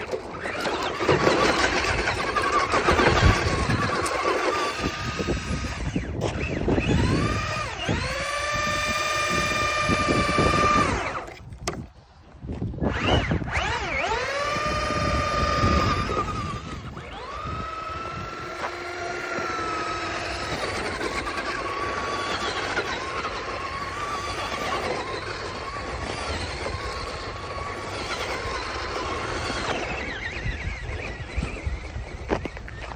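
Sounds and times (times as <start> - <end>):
rc car motor whining: 0.0 - 11.8, 12.7 - 32.9.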